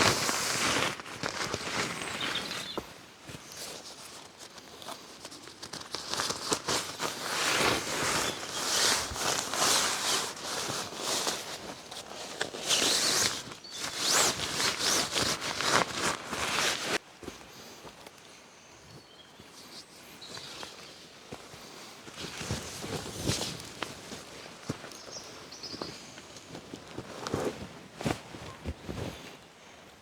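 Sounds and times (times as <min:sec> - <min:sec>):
fabric rustling and crinkling: 0:00.0 - 0:17.0, 0:19.6 - 0:30.0.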